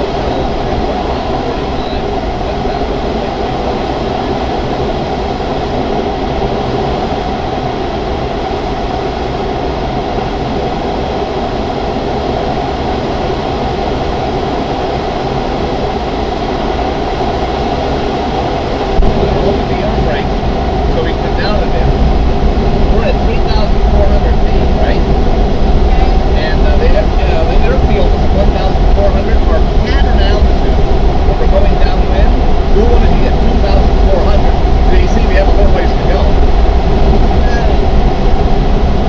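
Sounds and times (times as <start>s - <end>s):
wind rushing over glider: 0.0s - 39.0s.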